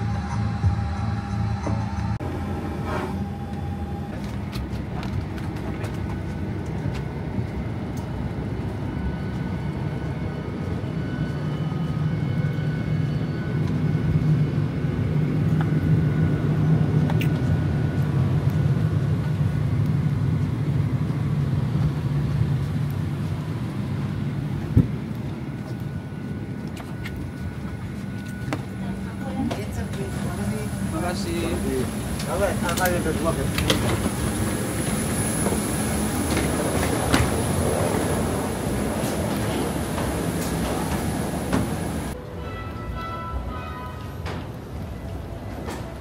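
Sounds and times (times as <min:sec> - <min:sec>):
airplane cabin rumble: 0:00.0 - 0:12.1, 0:13.6 - 0:42.2.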